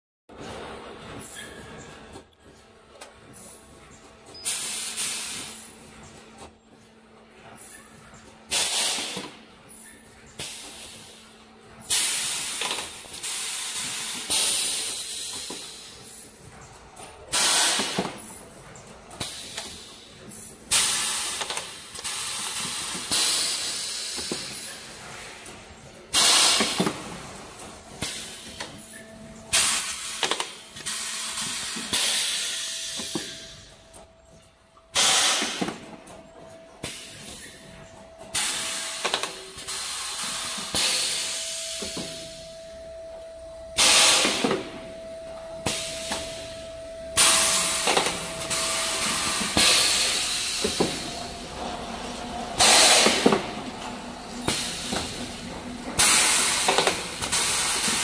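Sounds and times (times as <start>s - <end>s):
compressed air hissing bursts: 0.3s - 42.4s, 43.8s - 44.4s, 47.2s - 51.1s, 52.6s - 53.5s, 56.0s - 58.0s
faint machine hum: 0.3s - 58.0s.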